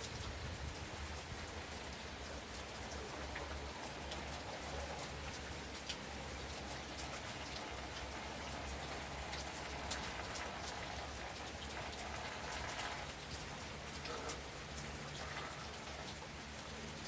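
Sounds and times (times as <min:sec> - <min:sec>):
gentle rain: 0:00.0 - 0:17.0.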